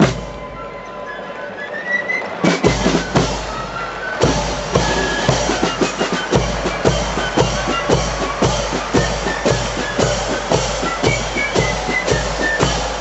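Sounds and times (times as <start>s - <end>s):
marching drums and cymbals: 0.0s - 0.8s, 2.4s - 13.0s
high flute notes: 0.0s - 13.0s.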